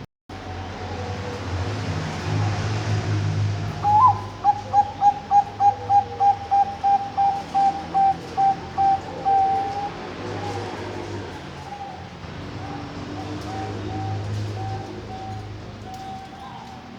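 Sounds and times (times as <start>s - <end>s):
dove cooing: 0.4s - 16.9s.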